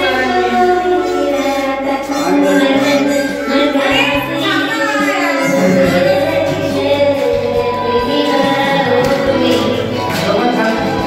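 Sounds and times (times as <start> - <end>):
woman singing into microphone: 0.0 - 10.6.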